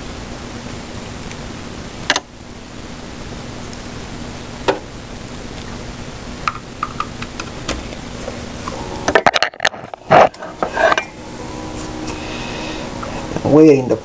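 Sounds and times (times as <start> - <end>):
faint hum: 0.0 - 14.0
steady hiss: 0.0 - 14.0.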